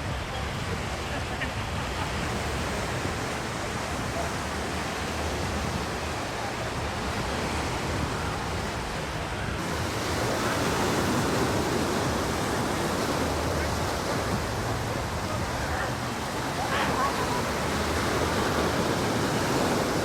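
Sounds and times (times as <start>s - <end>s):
ocean surf washing ashore: 0.0s - 20.0s.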